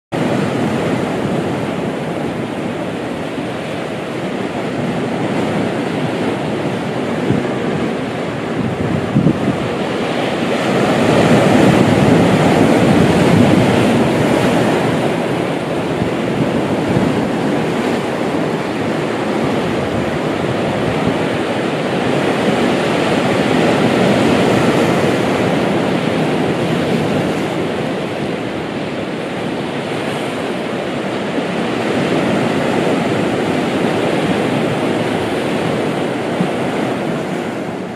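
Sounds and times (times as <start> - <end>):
waves washing onto rocky shore: 0.2 - 37.9
wind on microphone: 0.2 - 37.9.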